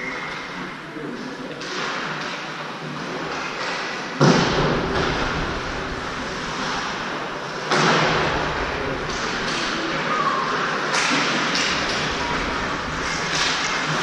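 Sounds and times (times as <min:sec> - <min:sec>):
rink background noise: 0:00.0 - 0:14.0
bangs against rink boards: 0:01.6 - 0:14.0.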